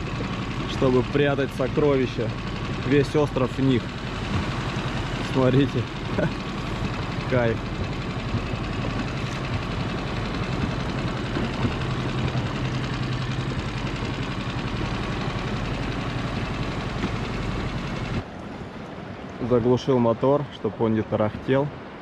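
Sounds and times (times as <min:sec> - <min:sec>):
boat motor idling: 0:00.0 - 0:19.9.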